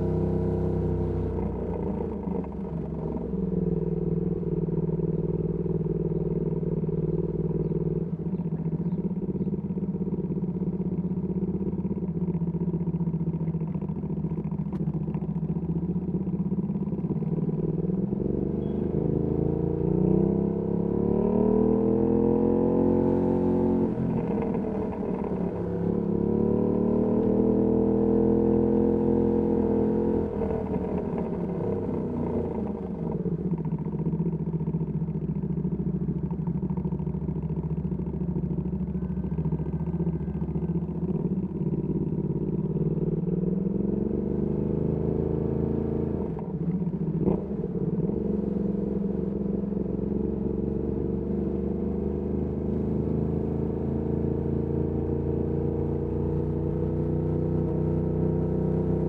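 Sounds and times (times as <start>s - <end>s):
motorcycle engine at low speed: 0.0s - 59.0s.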